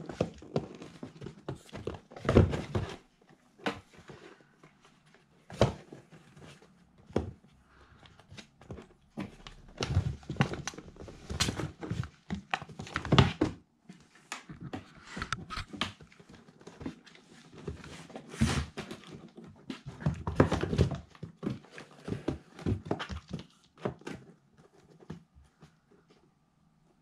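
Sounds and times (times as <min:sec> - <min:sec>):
cardboard rustling: 0:00.0 - 0:26.2
kittens scrabbling on cardboard: 0:00.0 - 0:26.2.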